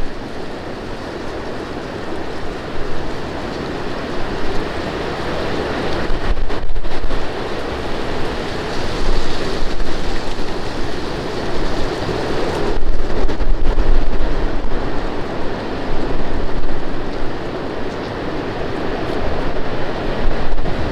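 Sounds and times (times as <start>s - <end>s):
strong gusty wind on microphone: 0.0s - 20.9s.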